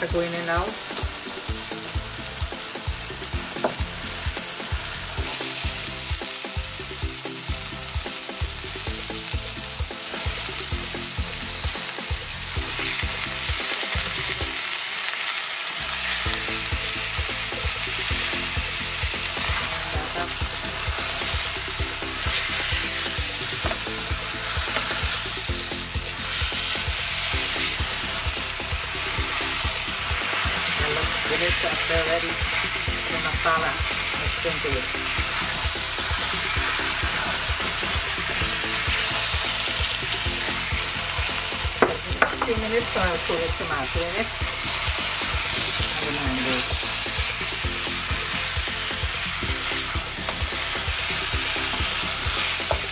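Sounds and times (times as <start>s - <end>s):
fish sizzling in hot oil: 0.0s - 52.9s.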